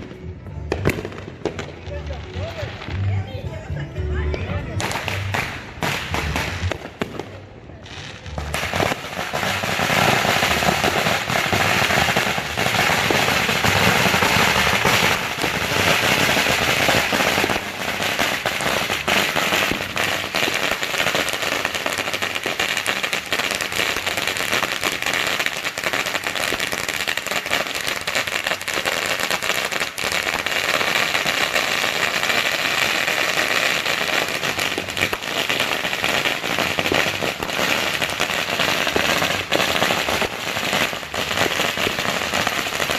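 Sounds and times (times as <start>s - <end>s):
firecrackers popping and crackling: 0.0s - 42.9s.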